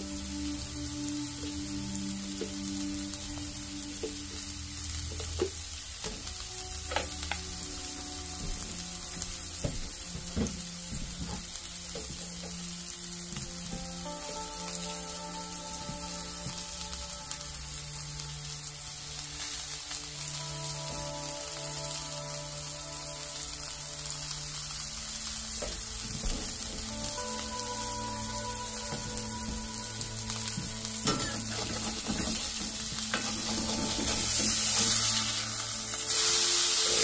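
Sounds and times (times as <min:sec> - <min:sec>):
patties sizzling on a skillet: 0:00.0 - 0:37.0.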